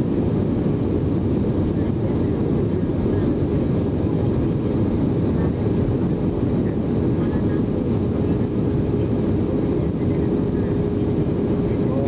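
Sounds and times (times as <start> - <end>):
aircraft engine and airflow rush: 0.0 - 12.0.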